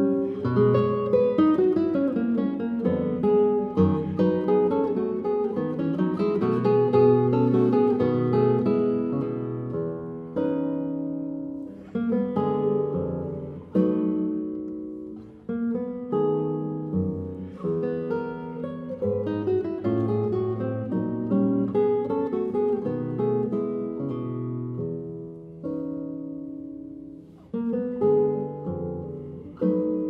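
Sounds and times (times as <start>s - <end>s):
classical guitar playing: 0.0s - 30.0s.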